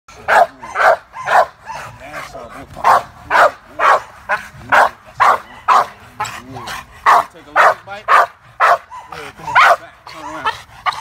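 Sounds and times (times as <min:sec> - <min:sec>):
dog barking rapidly: 0:00.2 - 0:02.0, 0:02.8 - 0:06.3, 0:07.0 - 0:11.0.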